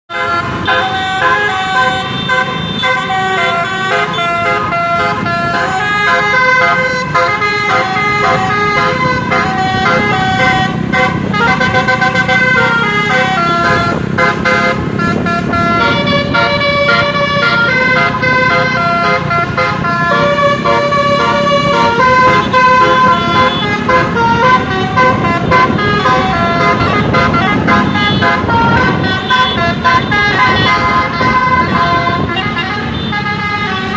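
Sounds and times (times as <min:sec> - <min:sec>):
multi-trumpet bus horn melody: 0:00.1 - 0:33.9.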